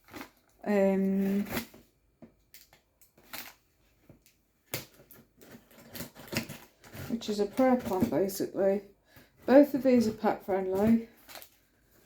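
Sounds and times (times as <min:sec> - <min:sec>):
plastic packaging crinkling: 0:00.0 - 0:08.6, 0:09.5 - 0:12.0.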